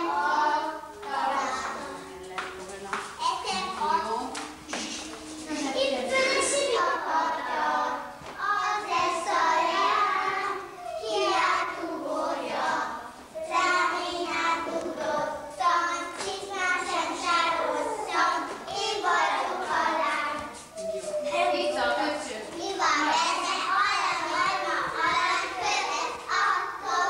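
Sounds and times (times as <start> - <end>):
young children singing: 0.0 - 2.6, 3.2 - 27.0.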